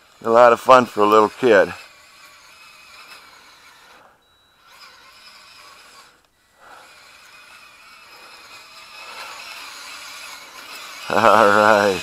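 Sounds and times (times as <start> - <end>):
toy car motor whirring: 0.0 - 12.0.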